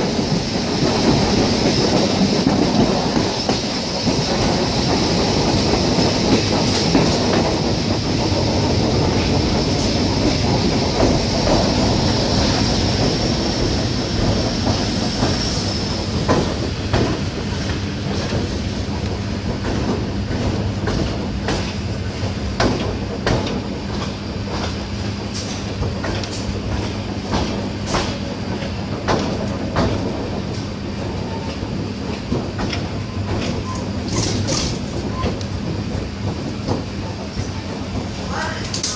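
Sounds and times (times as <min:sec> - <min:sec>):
train wheels rumbling on rails: 0:00.0 - 0:38.9
wheels clacking over rail joints: 0:00.0 - 0:38.9.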